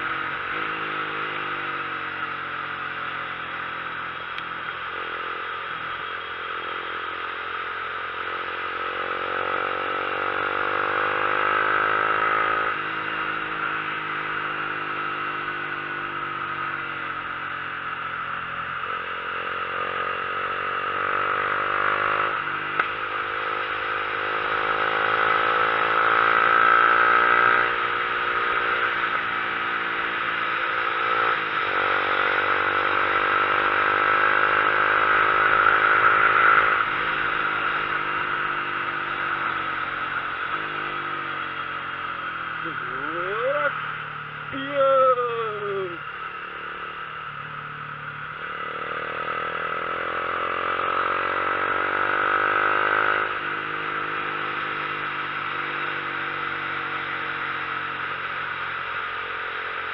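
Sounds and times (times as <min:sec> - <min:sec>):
vehicle engine running: 0:00.0 - 0:26.0, 0:27.2 - 0:59.9.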